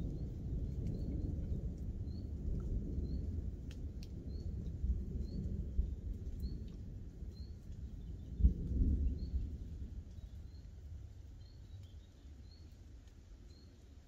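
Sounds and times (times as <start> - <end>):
heavy rain rumble: 0.0 - 14.0.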